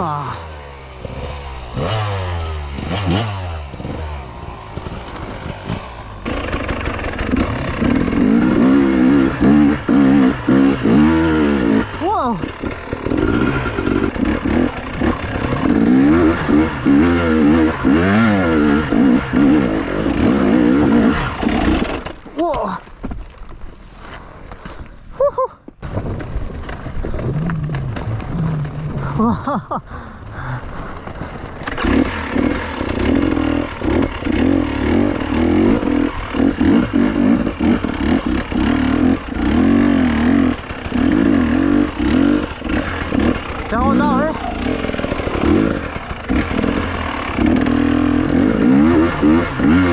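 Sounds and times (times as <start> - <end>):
motorcycle engine revving: 0.0 - 22.8, 25.8 - 49.9.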